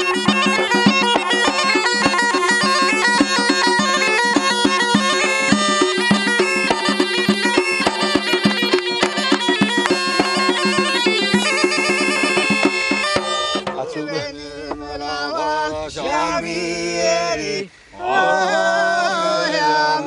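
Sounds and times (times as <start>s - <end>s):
folk music with drone: 0.0s - 20.0s
voices singing long notes: 0.0s - 20.0s.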